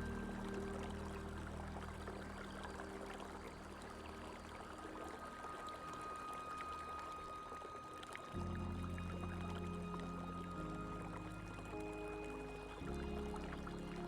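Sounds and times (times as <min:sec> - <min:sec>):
low sustained chord: 0:00.0 - 0:14.0
running water: 0:00.0 - 0:14.0
soft background music: 0:00.0 - 0:14.0.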